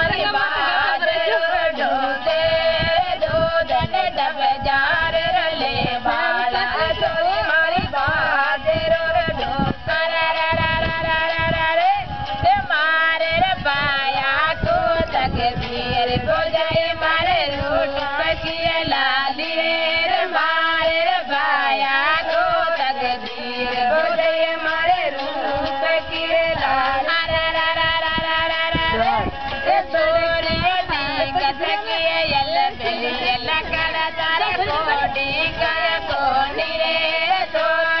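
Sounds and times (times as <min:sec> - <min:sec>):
person singing ornamented notes: 0:00.0 - 0:38.0.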